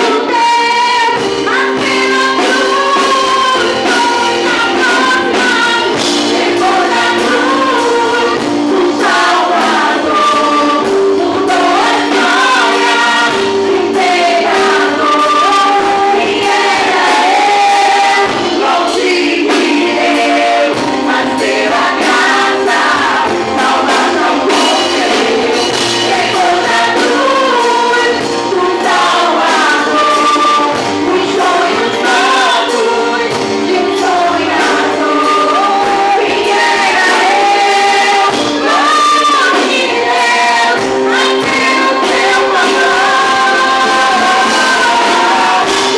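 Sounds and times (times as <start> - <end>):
musical accompaniment: 0.0 - 45.9
vocal group singing gospel: 0.0 - 45.9.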